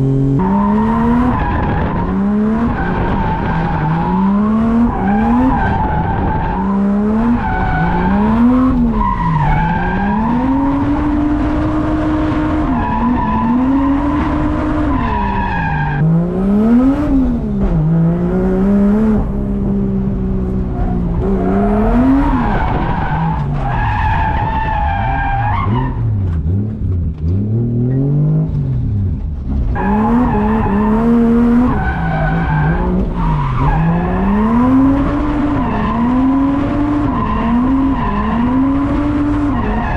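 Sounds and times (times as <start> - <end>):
car engine revving: 0.0 - 39.9
tyres skidding: 0.0 - 39.9.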